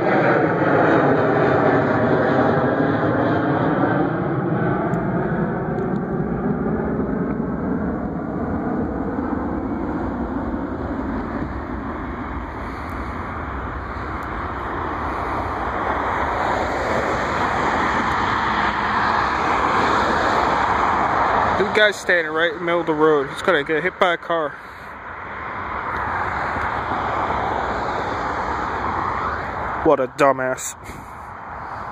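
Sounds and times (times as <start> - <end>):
jet airliner passing overhead: 0.0 - 31.9.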